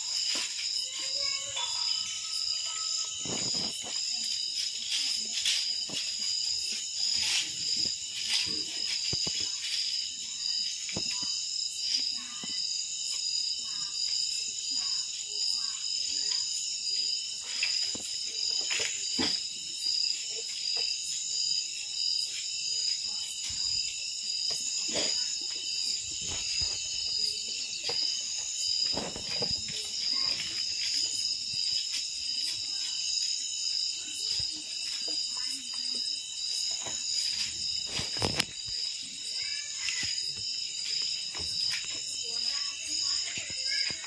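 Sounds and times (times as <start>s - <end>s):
night insects trilling: 0.0s - 44.0s.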